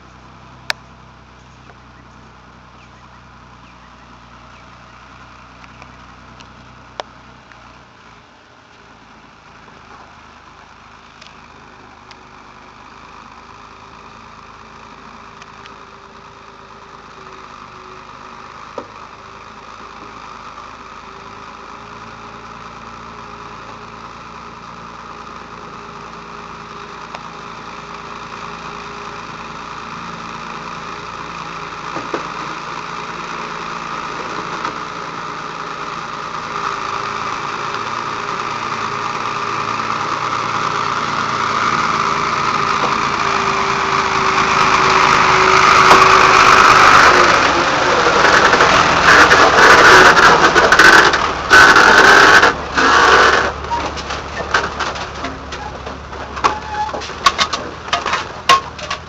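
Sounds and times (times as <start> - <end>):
heavy truck engine running: 0.0 - 59.0.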